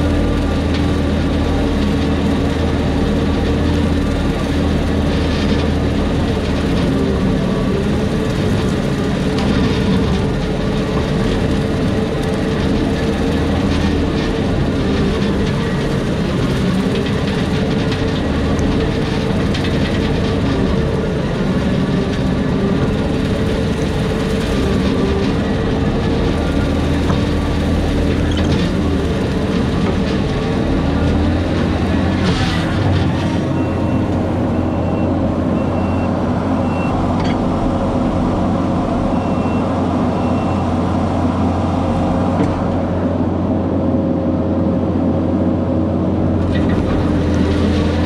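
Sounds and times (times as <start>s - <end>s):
skid steer running under load: 0.0s - 48.0s.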